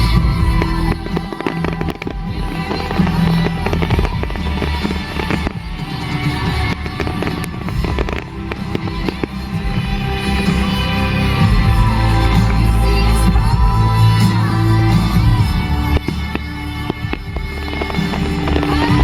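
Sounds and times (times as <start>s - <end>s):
fireworks bursting and crackling: 0.0s - 19.0s
loud music: 0.0s - 19.0s.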